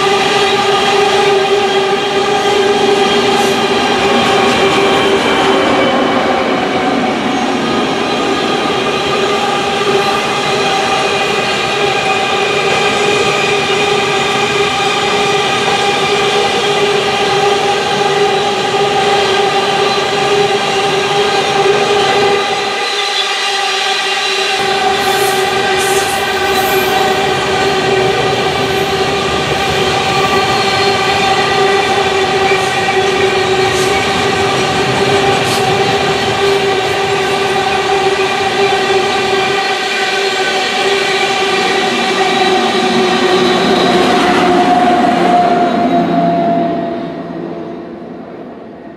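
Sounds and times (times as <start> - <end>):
train wagons rumbling on rails: 0.0 - 48.9.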